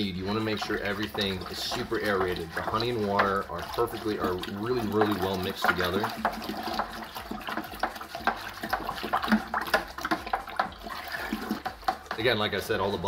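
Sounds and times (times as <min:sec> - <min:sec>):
liquid sloshing and splashing: 0:00.0 - 0:13.0
plastic spoon stirring in bucket: 0:00.0 - 0:13.0.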